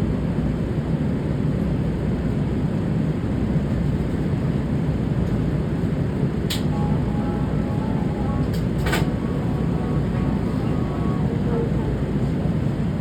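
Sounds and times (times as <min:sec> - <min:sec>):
light rail train rumble: 0:00.0 - 0:13.0.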